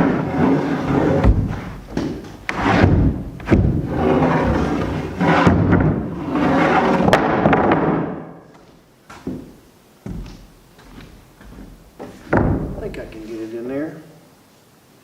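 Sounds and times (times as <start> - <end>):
lumber scraping and bumping: 0.0 - 13.0
wooden thumps: 0.0 - 13.1.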